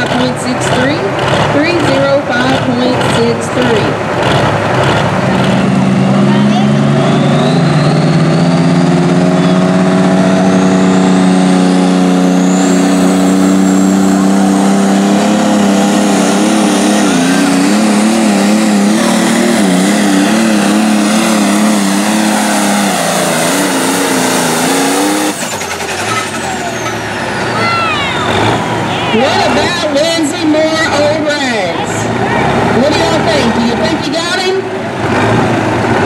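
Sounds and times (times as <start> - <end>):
tractor diesel engine at full power: 0.0 - 36.0.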